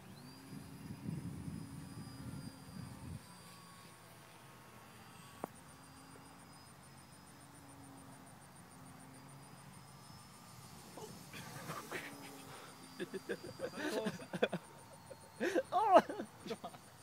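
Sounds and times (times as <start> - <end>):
distant model airplane motors humming: 0.0 - 17.0.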